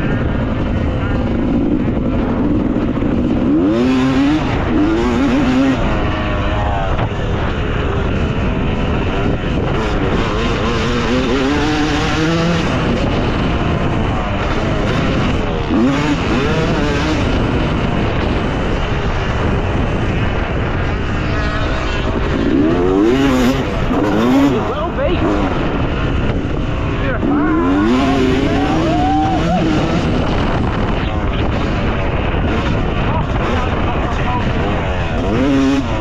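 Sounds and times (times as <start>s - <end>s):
motorbike engine revving hard: 0.0s - 36.0s
steady rush of noise: 0.0s - 36.0s.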